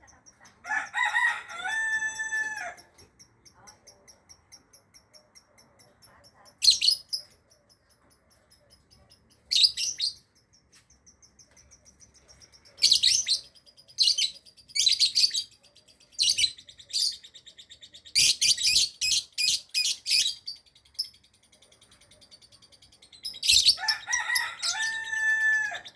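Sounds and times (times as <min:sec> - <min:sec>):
bird chirping: 0:00.0 - 0:25.9.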